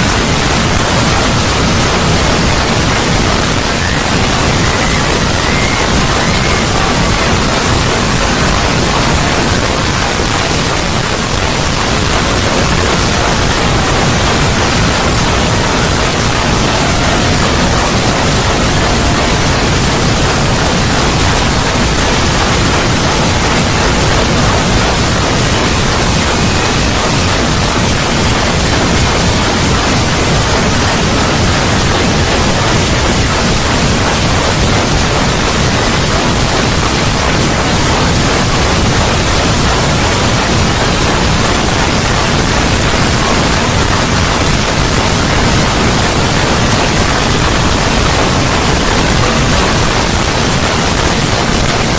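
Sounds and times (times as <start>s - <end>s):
loud rushing noise: 0.0s - 51.9s.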